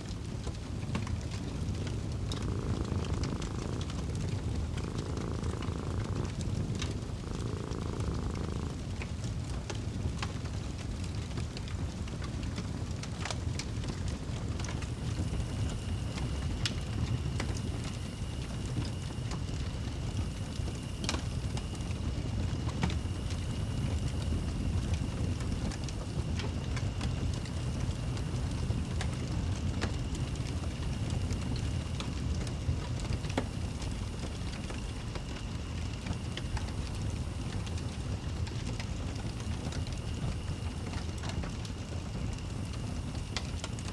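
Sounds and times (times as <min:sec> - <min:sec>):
fire crackling and popping: 0:00.0 - 0:43.9
fire rumbling: 0:00.0 - 0:43.9
cat purring: 0:00.2 - 0:10.6, 0:13.0 - 0:43.9.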